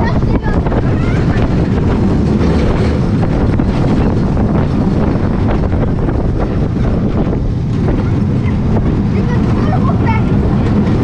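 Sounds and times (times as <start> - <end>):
roller coaster rumbling on track: 0.0 - 11.0
wind buffeting microphone: 0.0 - 11.0.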